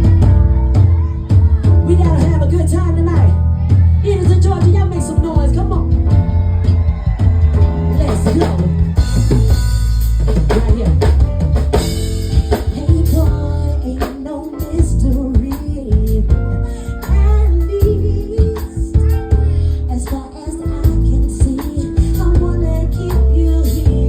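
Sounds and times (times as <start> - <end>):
r and b music: 0.0 - 24.0.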